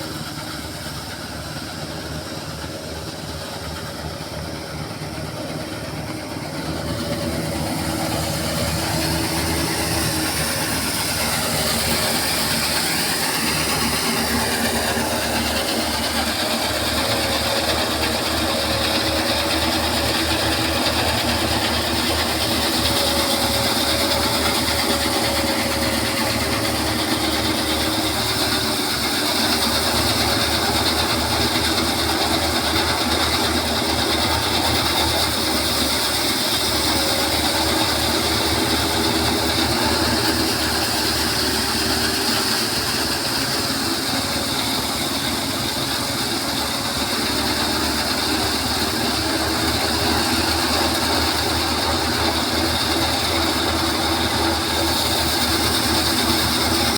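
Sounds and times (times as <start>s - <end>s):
small engine chugging: 0.0s - 56.9s.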